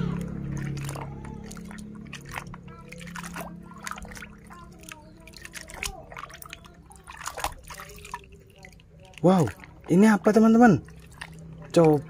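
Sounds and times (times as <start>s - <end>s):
water dripping: 0.0s - 12.0s
water sloshing in a bucket: 0.0s - 12.0s.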